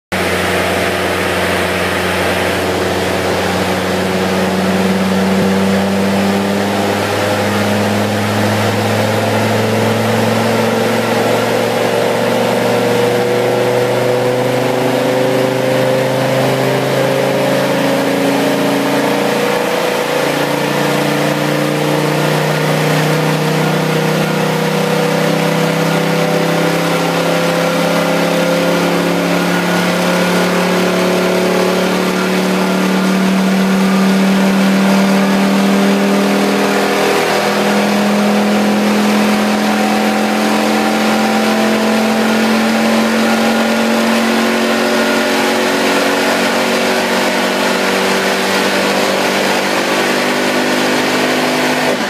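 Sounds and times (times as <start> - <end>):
car engine revving: 0.1 - 52.0.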